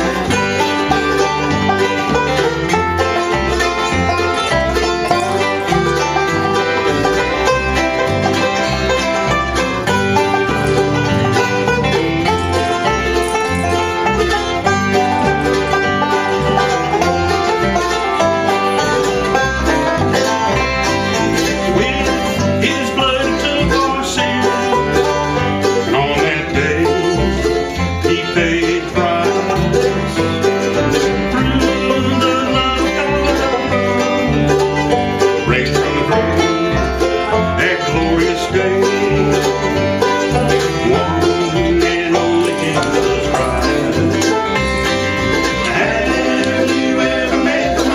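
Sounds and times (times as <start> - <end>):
banjo picking: 0.0 - 47.9
bass line: 0.0 - 47.9
strummed guitar: 0.0 - 47.9.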